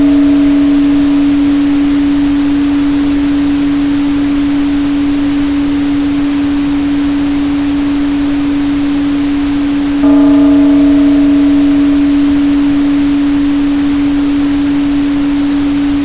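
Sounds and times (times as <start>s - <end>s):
steady sine tone: 0.0s - 16.0s.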